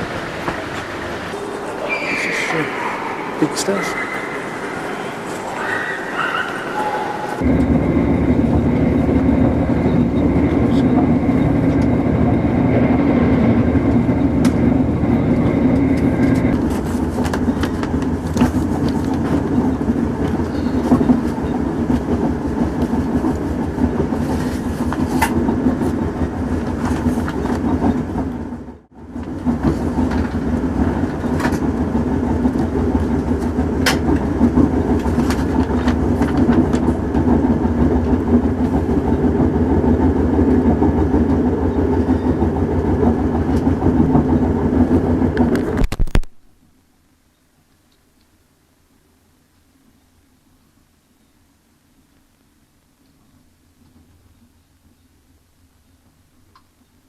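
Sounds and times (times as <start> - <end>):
diesel train rumbling: 0.0 - 45.9.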